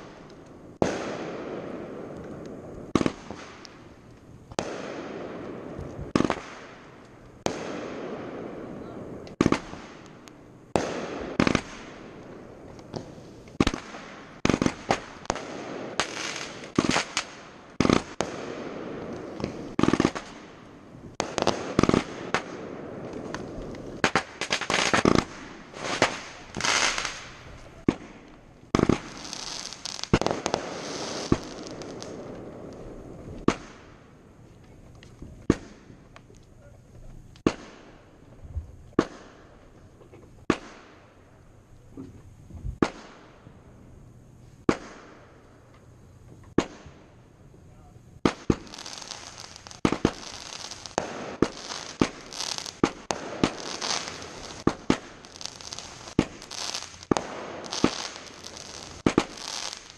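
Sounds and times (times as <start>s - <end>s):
firework shells bursting: 0.0s - 36.5s, 47.7s - 59.9s.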